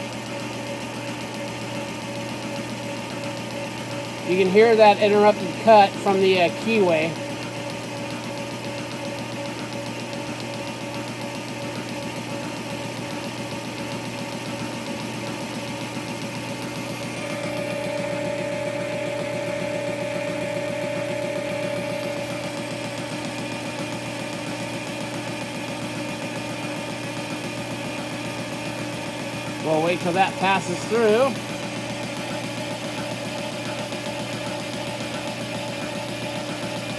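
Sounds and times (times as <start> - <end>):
metal lathe running: 0.0 - 36.9.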